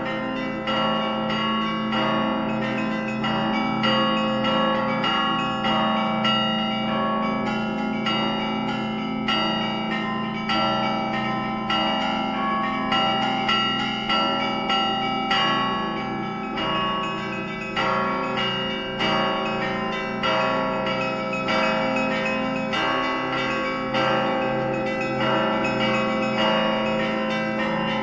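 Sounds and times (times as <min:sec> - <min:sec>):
hum of large bells: 0:00.0 - 0:28.0
small church bells struck: 0:00.0 - 0:28.0.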